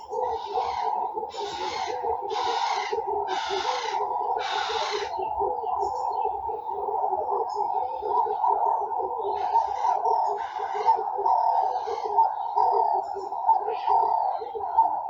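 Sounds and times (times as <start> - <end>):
birds warbling: 0.0 - 15.0.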